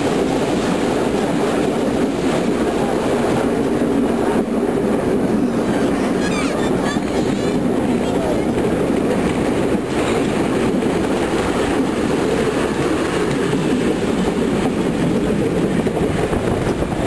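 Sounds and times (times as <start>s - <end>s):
train coaches rumbling over track: 0.0s - 17.0s.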